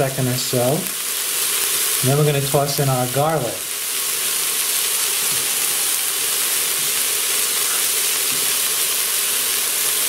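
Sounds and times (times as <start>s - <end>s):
onion and pepper sizzling in butter: 0.0s - 10.0s.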